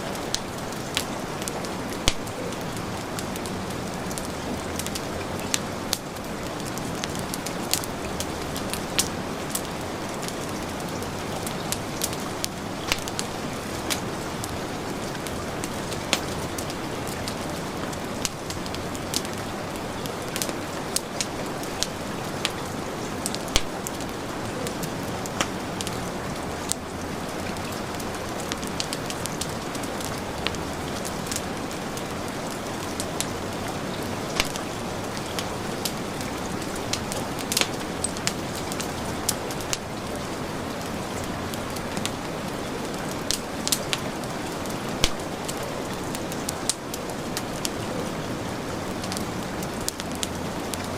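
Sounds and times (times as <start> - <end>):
heavy rain falling: 0.0 - 50.9
wood fire crackling: 0.0 - 50.9.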